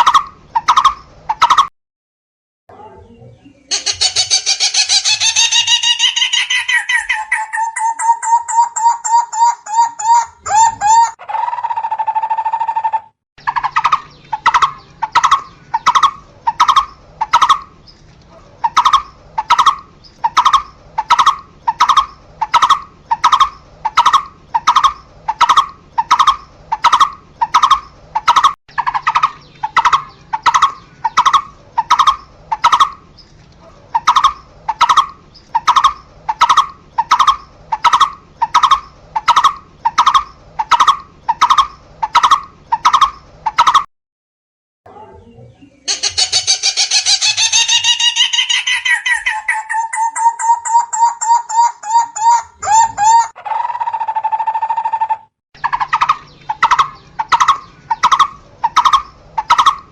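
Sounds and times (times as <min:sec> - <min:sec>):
barbet calling: 0:03.6 - 0:17.8, 0:18.6 - 0:33.1, 0:33.9 - 0:43.8, 0:45.9 - 0:59.9.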